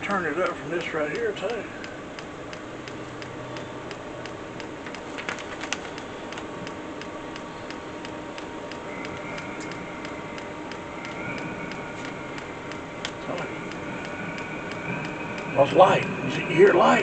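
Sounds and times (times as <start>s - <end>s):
heater fuel pump ticking: 0.0s - 17.0s
heater humming: 0.0s - 17.0s.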